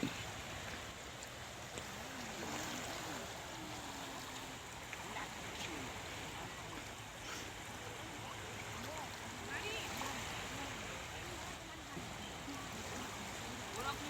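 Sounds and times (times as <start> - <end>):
sea water washing ashore: 0.0 - 14.0
faint distant voices: 1.5 - 14.0.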